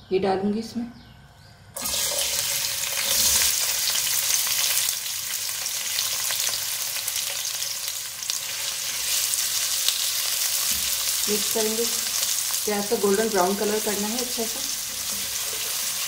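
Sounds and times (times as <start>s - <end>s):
onions sizzling in hot oil: 1.8s - 16.0s.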